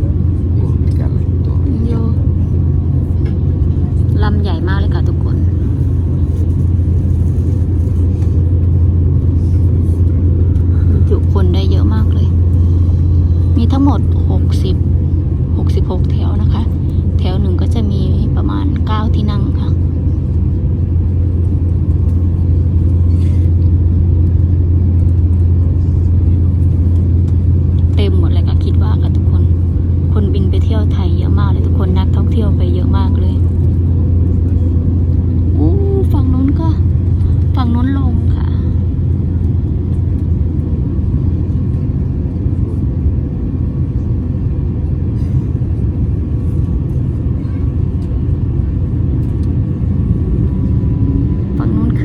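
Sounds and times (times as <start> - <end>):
airliner cabin rumble: 0.0 - 52.0
faint constant hum: 0.0 - 52.0.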